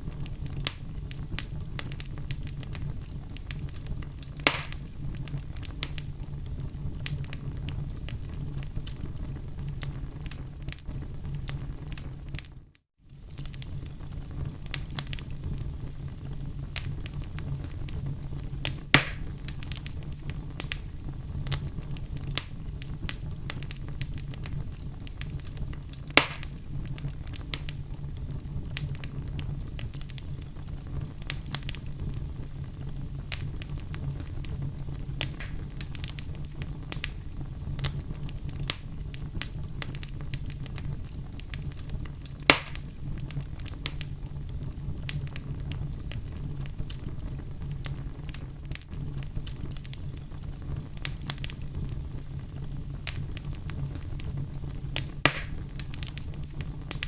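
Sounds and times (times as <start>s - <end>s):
loud fire snaps: 0.0s - 57.0s
wood fire crackling: 0.0s - 57.0s.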